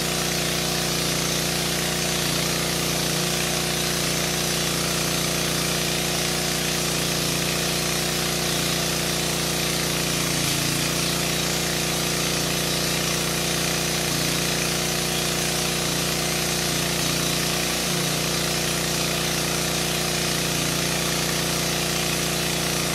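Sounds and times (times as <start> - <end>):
diesel generator running: 0.0 - 22.9.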